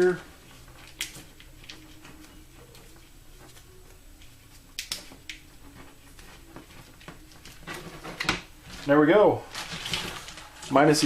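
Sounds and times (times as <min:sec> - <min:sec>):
low steady hum: 0:00.0 - 0:11.0
tape crackles and clicks: 0:00.0 - 0:11.0.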